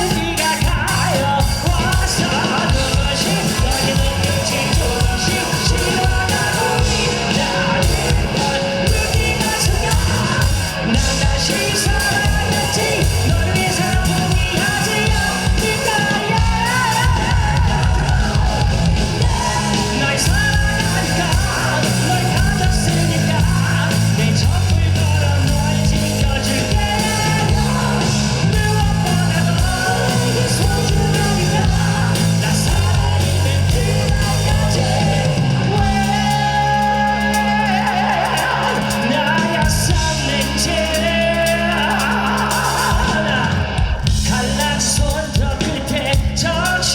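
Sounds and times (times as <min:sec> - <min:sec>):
person singing: 0:00.0 - 0:46.9
rock band playing: 0:00.0 - 0:46.9.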